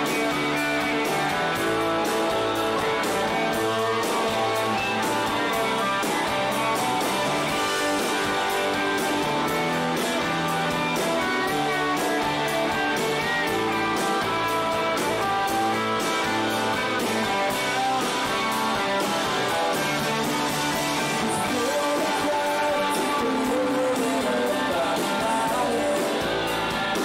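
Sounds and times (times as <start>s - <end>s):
drums: 0.0s - 27.0s
electric guitars: 0.0s - 27.0s.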